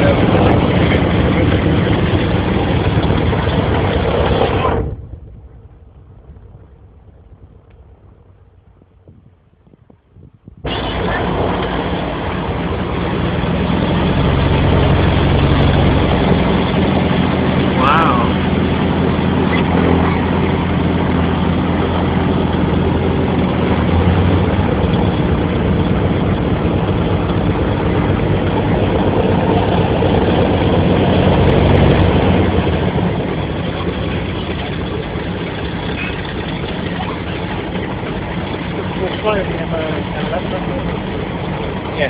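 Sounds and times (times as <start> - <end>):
aircraft piston engines running: 0.0 - 42.0.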